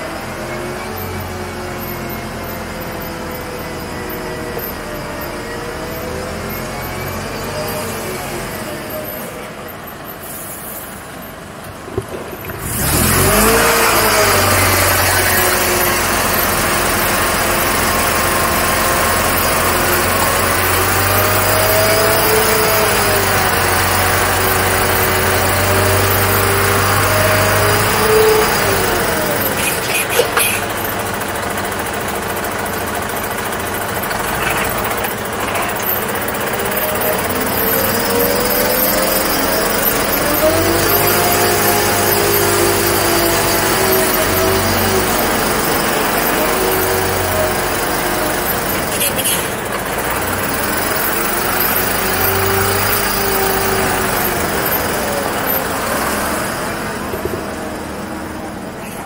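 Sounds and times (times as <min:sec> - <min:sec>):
truck diesel engine pulling: 0:00.0 - 0:59.0.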